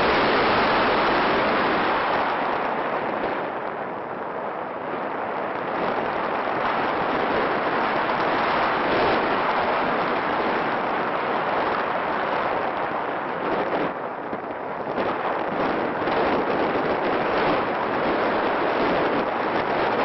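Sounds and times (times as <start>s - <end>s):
rushing air noise: 0.0s - 20.0s.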